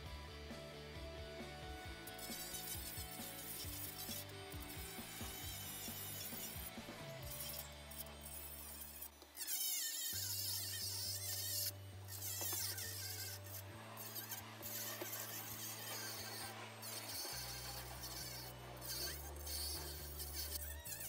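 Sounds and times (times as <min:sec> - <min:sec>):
background music with low notes: 0:00.0 - 0:09.1, 0:10.2 - 0:21.0
rotary tool whining: 0:00.0 - 0:21.0.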